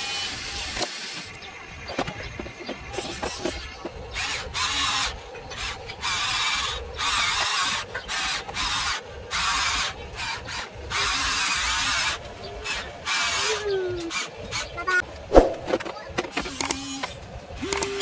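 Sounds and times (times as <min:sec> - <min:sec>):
toy electric motors whirring: 0:00.0 - 0:01.4, 0:02.9 - 0:15.0, 0:16.2 - 0:18.0.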